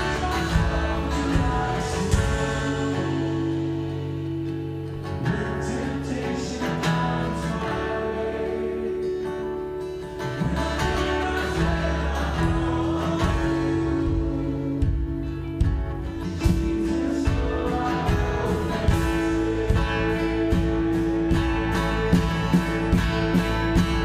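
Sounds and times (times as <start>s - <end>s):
person singing: 0.0s - 4.5s, 5.2s - 9.5s, 10.4s - 24.0s
bass: 0.0s - 24.0s
held keyboard notes: 0.0s - 24.0s
strummed acoustic guitar: 0.0s - 24.0s.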